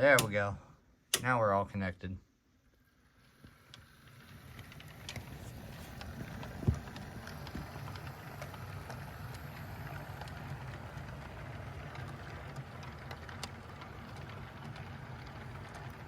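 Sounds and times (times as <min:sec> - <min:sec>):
model train motor hum: 0:03.0 - 0:16.0
wheels clicking over rails: 0:03.1 - 0:16.0.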